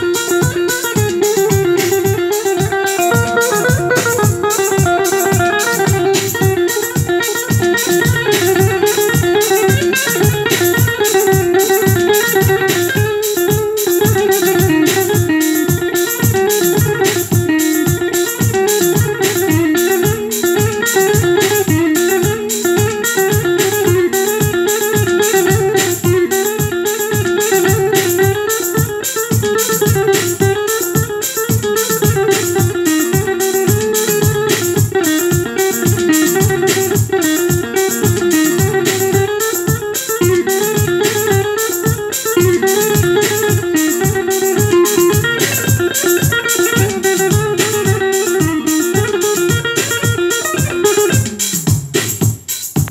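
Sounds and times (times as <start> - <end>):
keyboard plucked string melody: 0.0 - 52.9.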